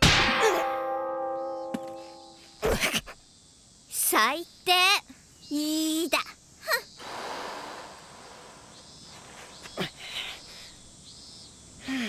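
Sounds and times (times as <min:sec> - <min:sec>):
insect chirping: 0:00.8 - 0:12.0.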